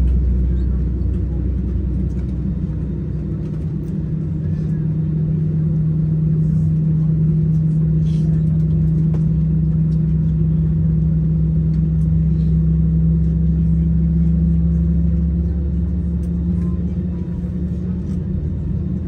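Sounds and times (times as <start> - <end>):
airliner cabin hum and rumble: 0.0 - 19.0.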